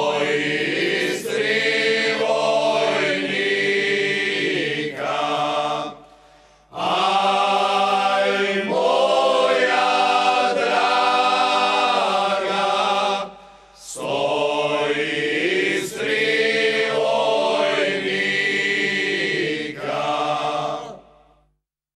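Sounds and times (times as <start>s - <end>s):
men singing a cappella: 0.0s - 6.1s, 6.7s - 21.2s.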